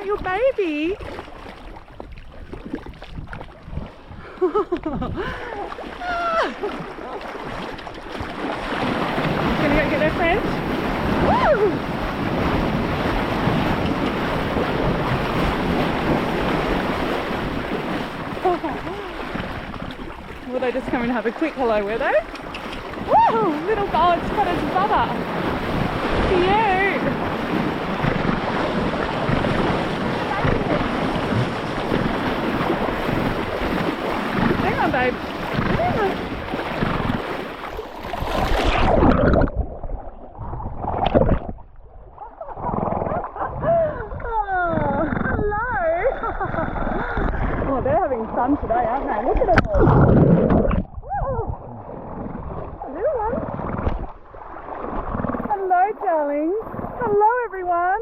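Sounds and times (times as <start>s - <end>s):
sea water rushing: 0.0s - 58.0s
seawater splashing and gurgling: 0.0s - 58.0s
wind buffeting microphone: 0.0s - 58.0s.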